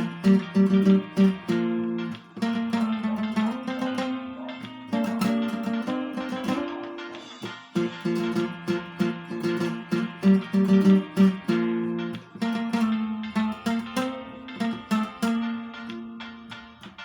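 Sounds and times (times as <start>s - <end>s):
acoustic guitar playing hymn melody: 0.0s - 17.0s.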